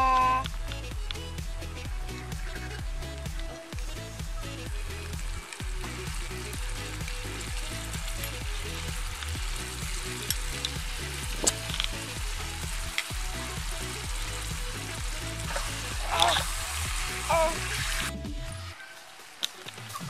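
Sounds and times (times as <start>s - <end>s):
meat sizzling in a pan: 2.3s - 20.0s.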